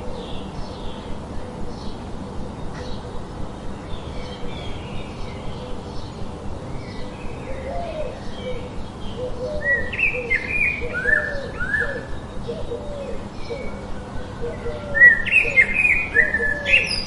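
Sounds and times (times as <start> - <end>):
lower fuller bird calls: 0.0 - 17.0
steady background noise: 0.0 - 17.0.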